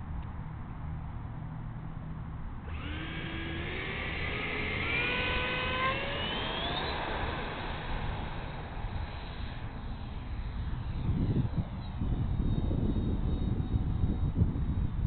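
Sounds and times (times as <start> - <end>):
electric ducted fan whine: 0.0 - 15.0.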